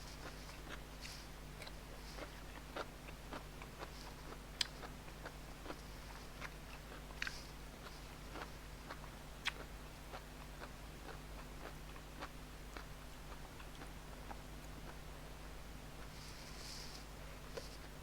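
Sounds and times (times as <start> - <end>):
person chewing food: 0.0 - 15.1, 16.0 - 18.0
faint low hum: 0.0 - 18.0.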